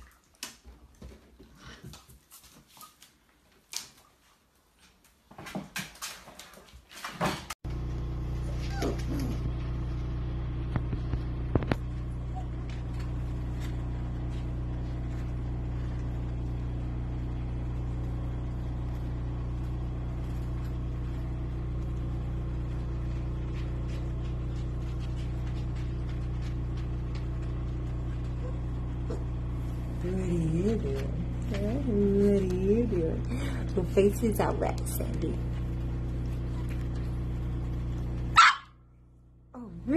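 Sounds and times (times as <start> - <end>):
low machine hum: 7.7 - 39.9.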